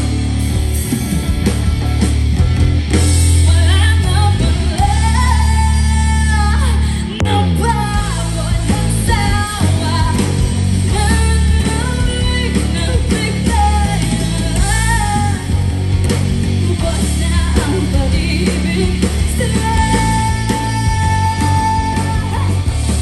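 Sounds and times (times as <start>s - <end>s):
bass guitar: 0.0s - 23.0s
bending lead guitar melody: 0.0s - 23.0s
drums: 0.0s - 23.0s
electric guitar: 0.0s - 23.0s.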